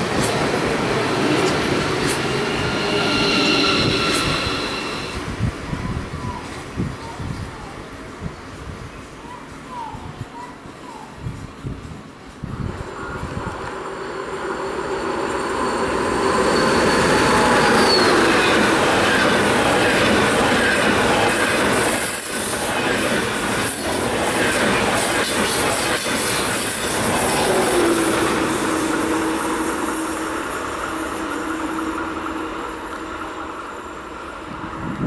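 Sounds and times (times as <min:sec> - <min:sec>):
train wheels on rails: 0:00.0 - 0:09.8, 0:10.7 - 0:35.0.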